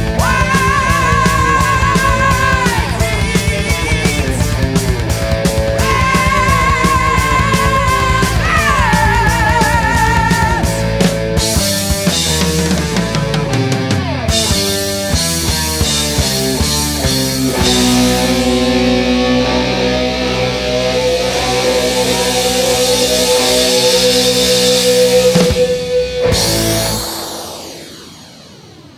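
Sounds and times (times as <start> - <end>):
rock music with electric guitar: 0.0 - 28.9.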